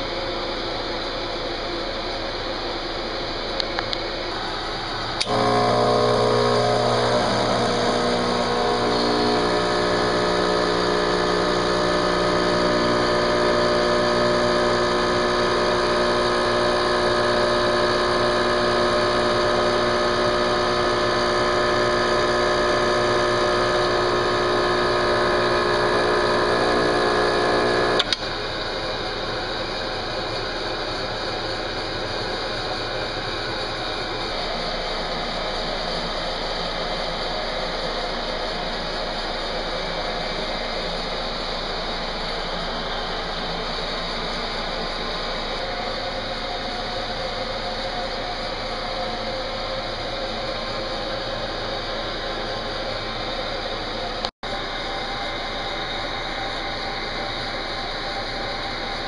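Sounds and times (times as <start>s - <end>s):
espresso machine pump buzzing: 3.4s - 59.0s.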